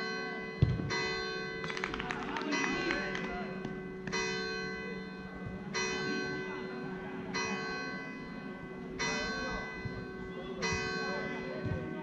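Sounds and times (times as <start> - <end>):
church bell tolling: 0.0 - 1.6, 2.5 - 12.0.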